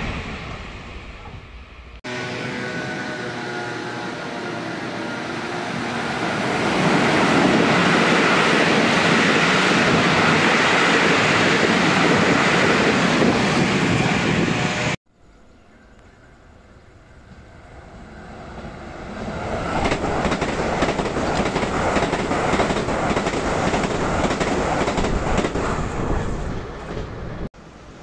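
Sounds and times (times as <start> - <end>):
train passing at high speed: 0.0 - 15.0, 16.6 - 28.0.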